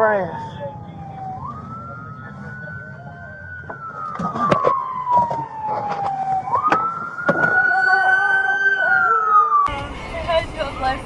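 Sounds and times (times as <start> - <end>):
emergency vehicle siren wailing: 0.0 - 11.0.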